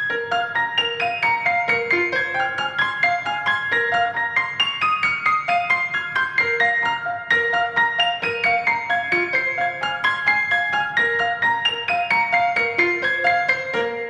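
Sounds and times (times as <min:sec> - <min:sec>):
keyboard instrumental music: 0:00.0 - 0:14.0.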